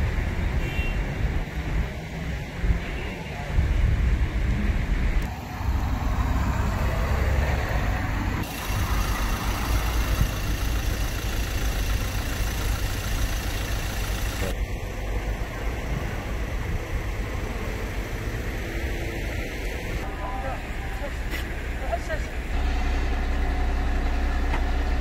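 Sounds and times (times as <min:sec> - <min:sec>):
traffic noise: 0:00.0 - 0:25.0
vehicle engines rumbling: 0:00.0 - 0:25.0.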